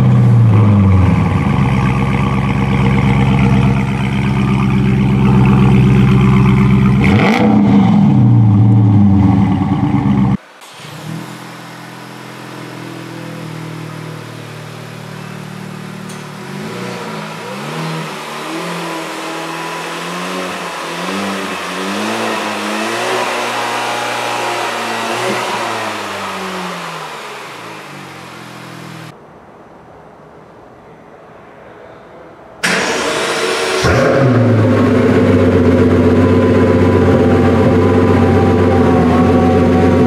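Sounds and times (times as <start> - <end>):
car engine idling and revving: 0.0 - 29.2, 32.6 - 40.0.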